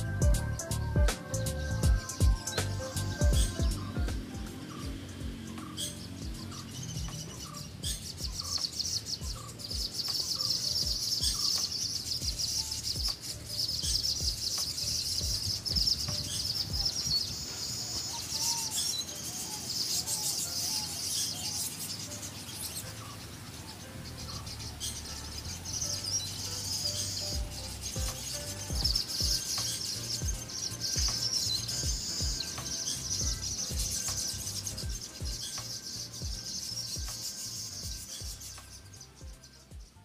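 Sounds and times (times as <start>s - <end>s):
background music with low beat: 0.0s - 21.1s, 21.7s - 40.0s
birds chirping and singing: 0.0s - 40.0s.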